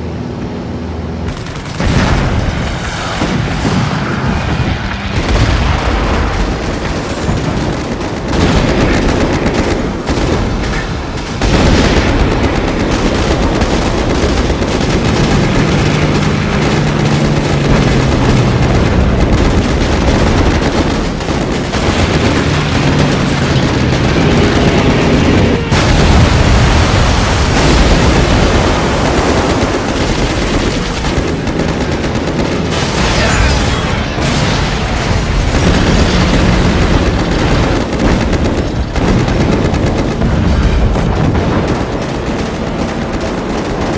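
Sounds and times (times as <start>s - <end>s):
anti-aircraft gunfire: 1.2s - 43.9s.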